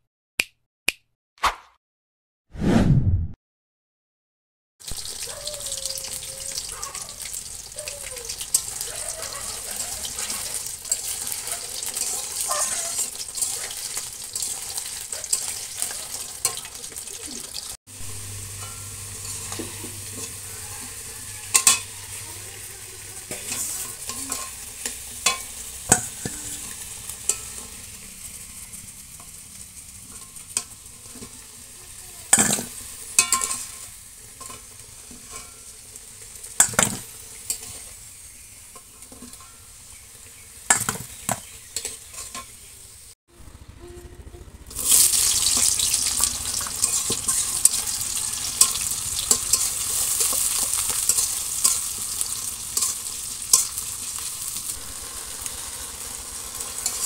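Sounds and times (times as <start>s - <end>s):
potatoes sizzling in oil: 4.8s - 43.1s, 44.7s - 57.0s.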